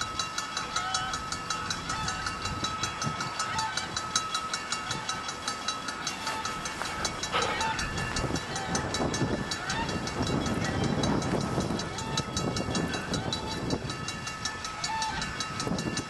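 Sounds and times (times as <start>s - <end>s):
rapid high ticking: 0.0s - 16.0s
steam locomotive rumble: 0.0s - 16.0s.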